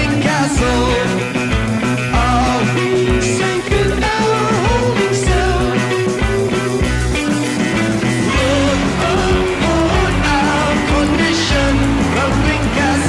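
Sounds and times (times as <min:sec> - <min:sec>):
person singing: 0:00.0 - 0:01.4, 0:02.0 - 0:06.4, 0:08.0 - 0:13.0
bass: 0:00.0 - 0:13.0
distorted electric guitars: 0:00.0 - 0:13.0
drums: 0:00.0 - 0:13.0.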